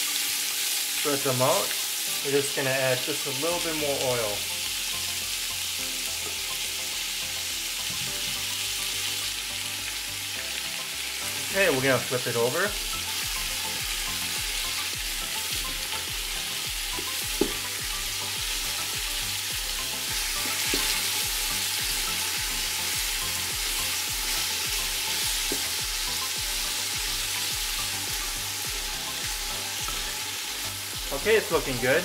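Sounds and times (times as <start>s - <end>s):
meat sizzling in hot oil: 0.0s - 32.0s.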